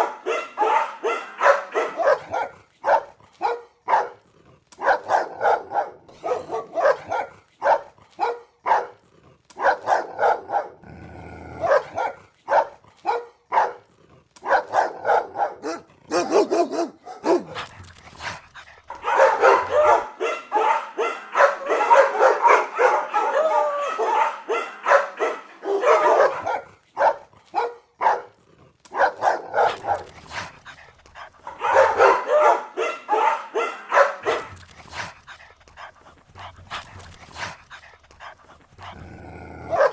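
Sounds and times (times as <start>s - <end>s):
dogs barking: 0.0s - 10.8s, 11.5s - 39.9s.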